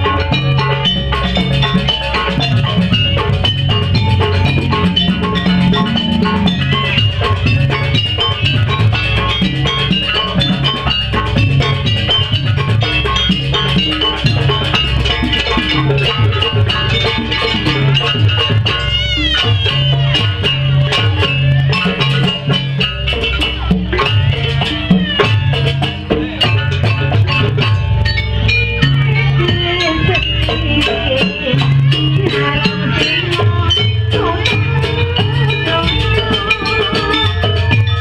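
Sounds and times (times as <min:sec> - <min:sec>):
gamelan music with drums: 0:00.0 - 0:38.0.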